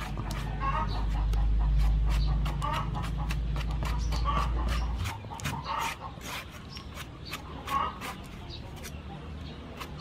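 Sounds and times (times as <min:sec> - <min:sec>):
knife scraping fruit flesh: 0:00.0 - 0:10.0.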